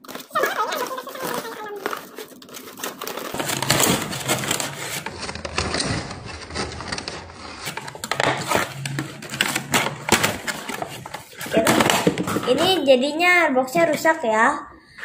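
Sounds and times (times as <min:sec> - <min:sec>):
cardboard box tearing and crinkling: 0:00.0 - 0:12.7.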